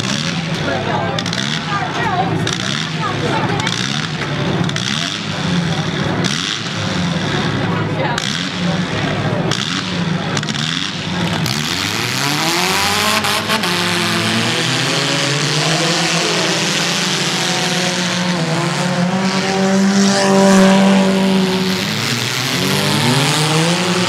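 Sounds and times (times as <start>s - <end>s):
small car engines accelerating: 0.0s - 24.0s.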